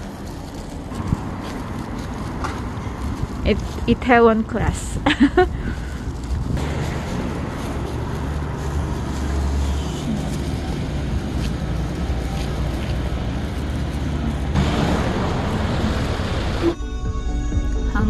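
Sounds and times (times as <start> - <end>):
traffic rumble: 0.0 - 17.5
wind: 0.0 - 18.0.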